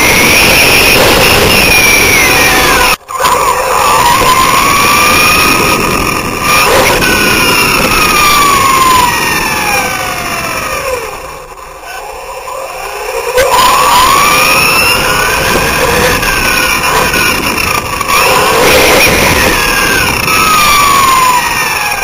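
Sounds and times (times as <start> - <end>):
rc car motor whining: 0.0 - 22.0
tyres and wind hiss: 0.0 - 22.0.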